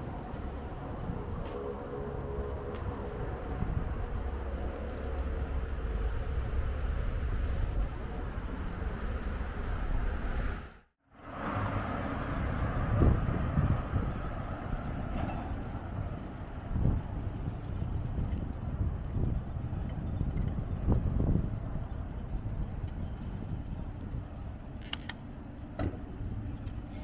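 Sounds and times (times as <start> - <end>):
passing cars rumbling: 0.0 - 27.0.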